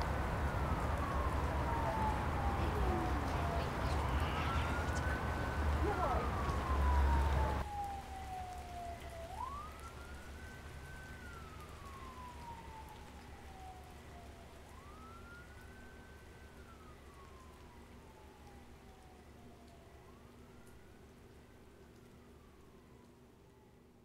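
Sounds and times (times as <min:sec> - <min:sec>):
siren wailing: 0:00.1 - 0:23.7.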